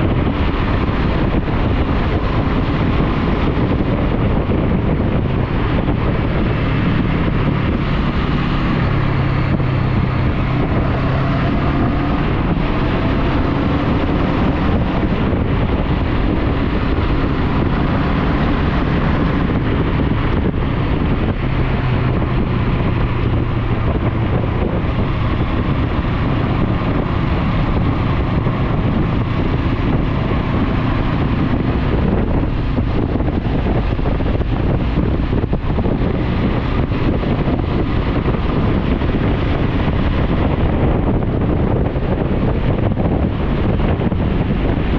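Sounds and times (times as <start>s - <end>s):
motorcycle engine cruising: 0.0s - 44.9s
wind noise on microphone: 0.0s - 44.9s.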